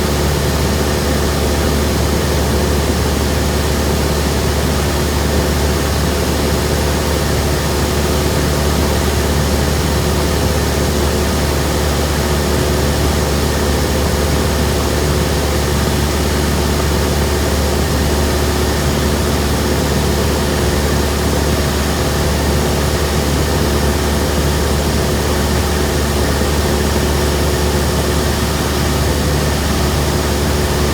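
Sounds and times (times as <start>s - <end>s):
propeller plane engine drone: 0.0s - 30.9s.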